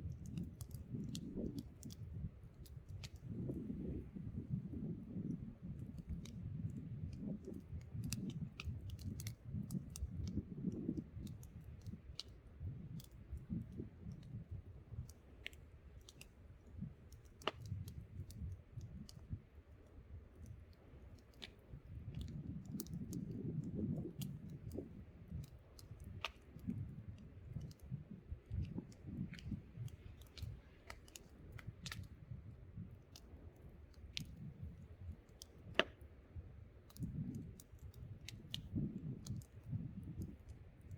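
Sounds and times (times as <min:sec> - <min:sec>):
wind buffeting microphone: 0:00.0 - 0:15.1, 0:16.6 - 0:19.6, 0:21.4 - 0:40.9
campfire crackling and popping: 0:00.0 - 0:40.9.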